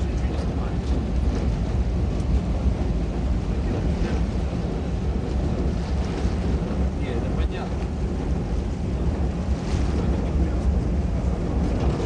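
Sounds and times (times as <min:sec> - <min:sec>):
water noise: 0:00.0 - 0:12.0
wind buffeting microphone: 0:00.0 - 0:12.0.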